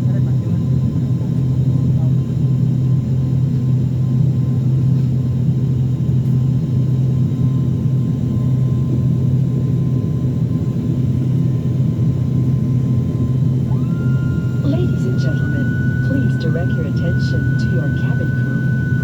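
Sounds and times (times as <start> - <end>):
turboprop engine drone: 0.0 - 19.0.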